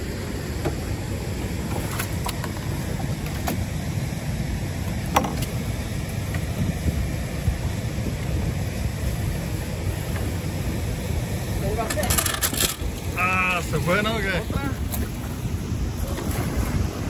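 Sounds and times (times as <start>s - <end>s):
river water flowing: 0.0s - 17.0s
wind: 0.0s - 17.0s.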